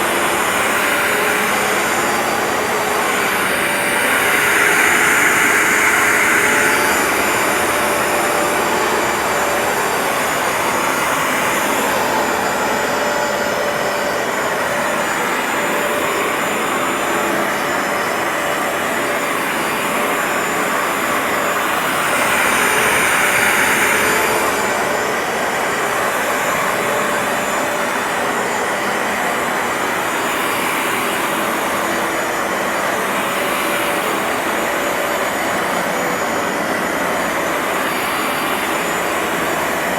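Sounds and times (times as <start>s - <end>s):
carpet washer motor whirring: 0.0s - 39.9s.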